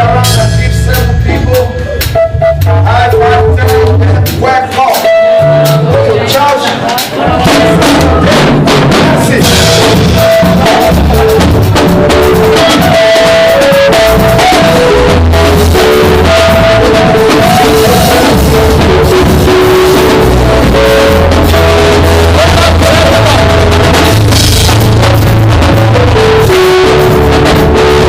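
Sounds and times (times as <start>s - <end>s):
worship band music: 0.0s - 28.0s.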